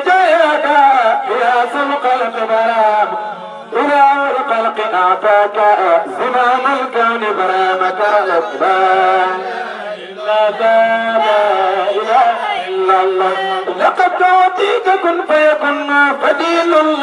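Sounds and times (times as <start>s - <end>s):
men chanting through microphones: 0.0s - 17.0s.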